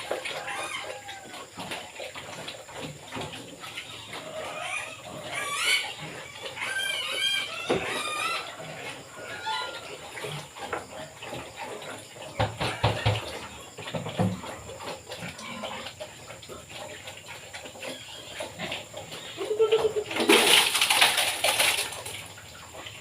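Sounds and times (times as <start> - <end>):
chickens clucking: 0.0 - 23.0
pigs chewing and slurping: 0.0 - 23.0.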